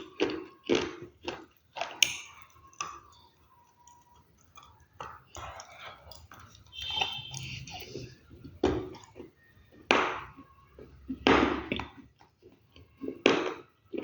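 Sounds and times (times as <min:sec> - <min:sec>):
crunchy food chewing: 0:00.0 - 0:14.0.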